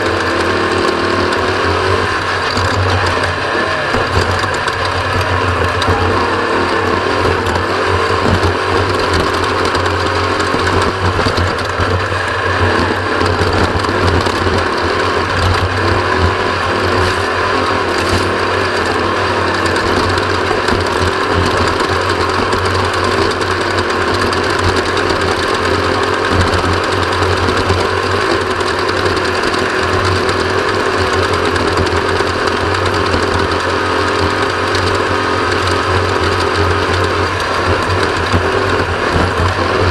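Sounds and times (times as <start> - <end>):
race vehicle engine droning: 0.0 - 39.9.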